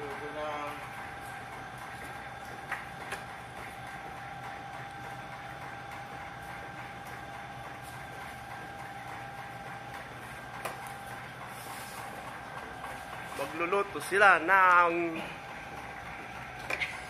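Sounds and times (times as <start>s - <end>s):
mechanical room hum: 0.0s - 17.0s.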